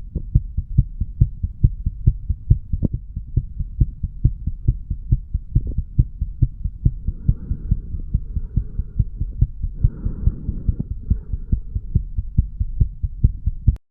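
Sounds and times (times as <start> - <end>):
heartbeat thuds: 0.0 - 13.8.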